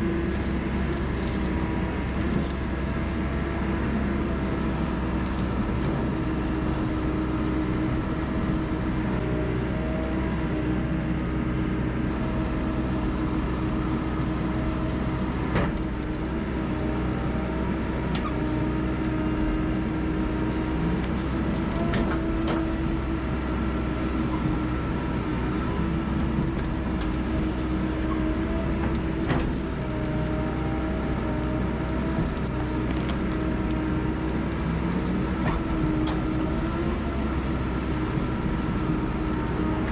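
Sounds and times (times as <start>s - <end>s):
heavy equipment diesel engine: 0.0s - 39.9s.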